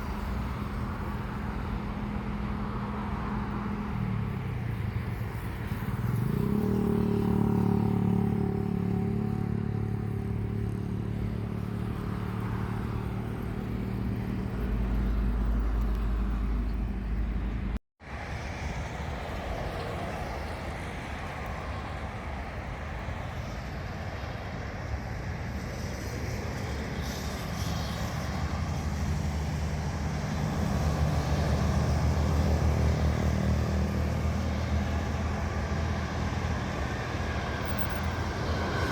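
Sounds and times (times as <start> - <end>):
engine noise: 0.0 - 38.9.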